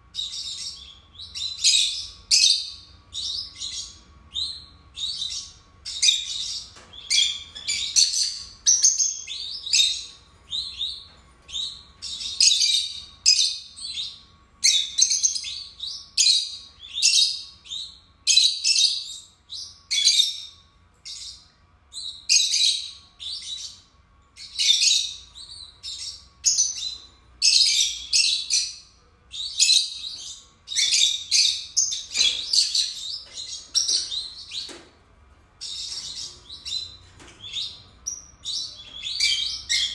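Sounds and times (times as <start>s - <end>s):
lovebirds chirping shrilly: 0.0s - 34.8s, 35.6s - 39.9s.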